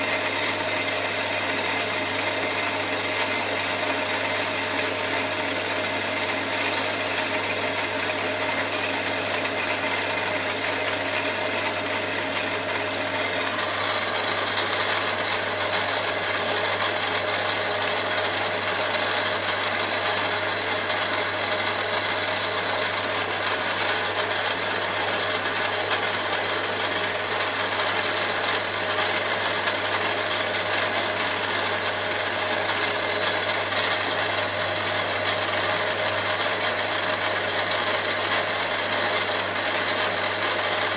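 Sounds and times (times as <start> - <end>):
milling machine drilling metal: 0.0 - 40.9.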